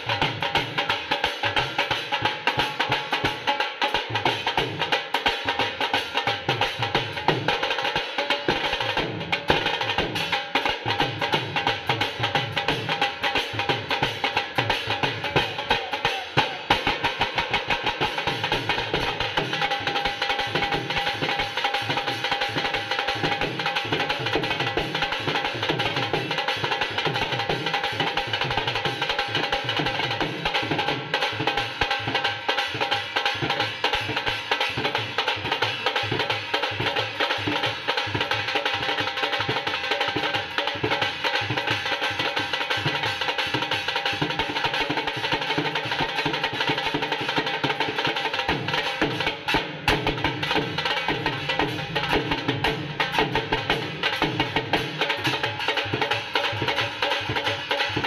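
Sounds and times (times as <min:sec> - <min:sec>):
drum group playing fast rhythm: 0:00.0 - 0:58.0.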